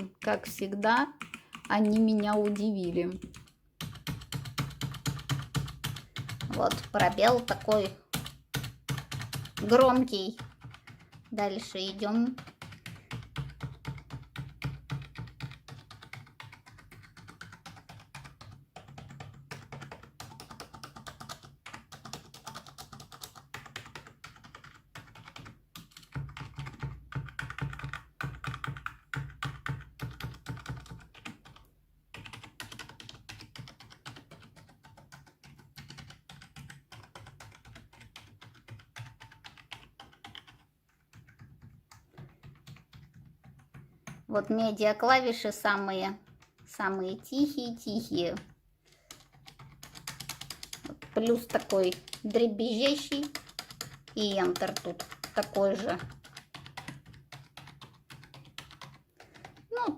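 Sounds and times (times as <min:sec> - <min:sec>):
computer keyboard typing: 0:00.0 - 0:59.9.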